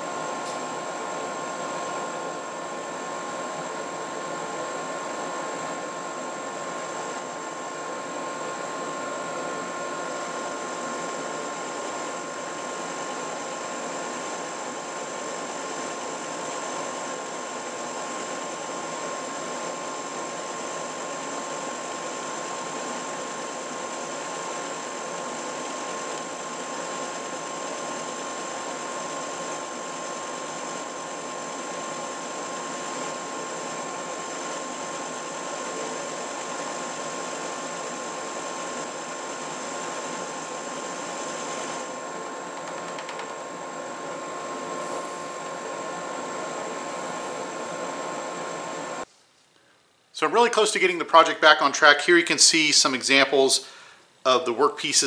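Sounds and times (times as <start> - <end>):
drill press motor running: 0.0 - 49.0.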